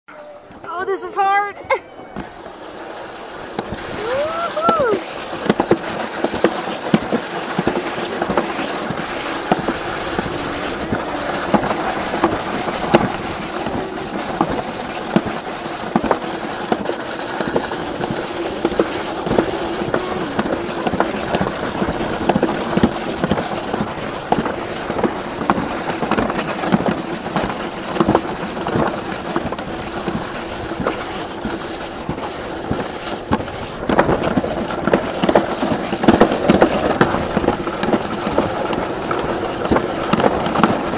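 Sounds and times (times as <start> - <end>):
sled rumbling down concrete track: 0.1 - 40.9
clacks and rattles over joints: 5.2 - 40.9.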